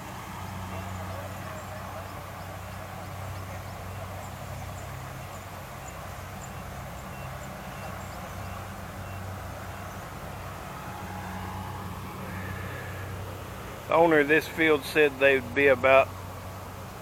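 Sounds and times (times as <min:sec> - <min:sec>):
combine harvester engine hum: 0:00.0 - 0:17.0.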